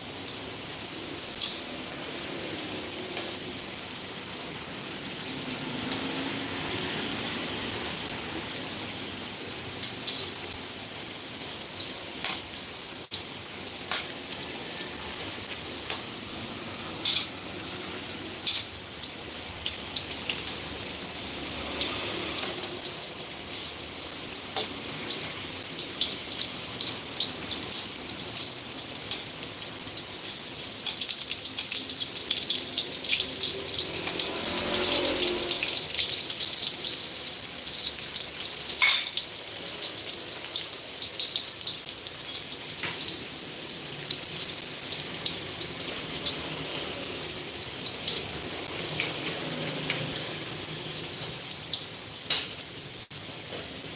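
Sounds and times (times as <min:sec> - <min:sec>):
hot oil sizzling and popping: 0:00.0 - 0:53.9.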